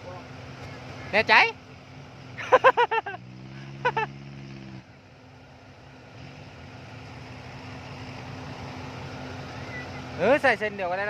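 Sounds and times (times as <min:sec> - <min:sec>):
low engine hum: 0:00.0 - 0:11.0
tractor engine running: 0:00.0 - 0:11.0.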